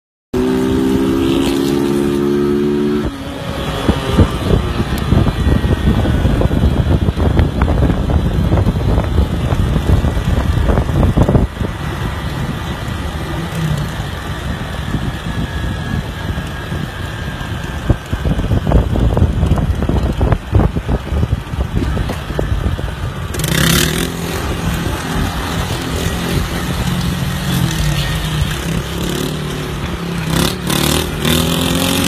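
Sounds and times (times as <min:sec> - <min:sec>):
motorcycle engine running: 0:00.4 - 0:32.0.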